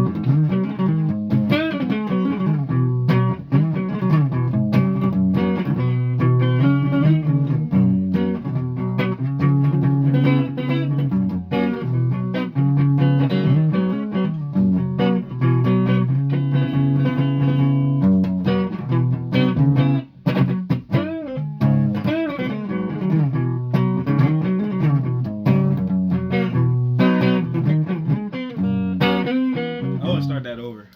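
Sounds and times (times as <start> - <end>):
guitar riff: 0.0 - 30.9.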